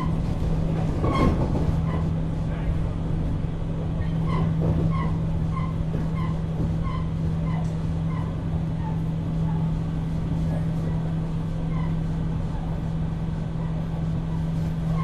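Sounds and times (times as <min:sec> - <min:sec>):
train motor hum and rumble: 0:00.0 - 0:15.0.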